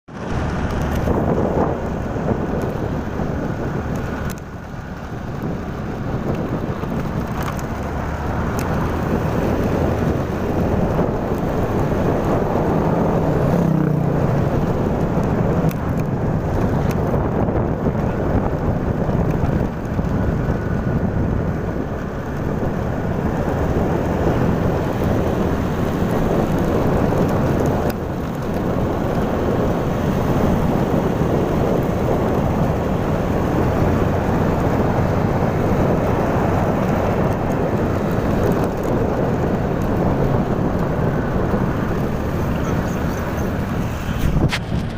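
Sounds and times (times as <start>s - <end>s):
road noise: 0.0s - 44.9s
vehicle engine: 0.0s - 44.9s
wind noise: 0.1s - 44.9s.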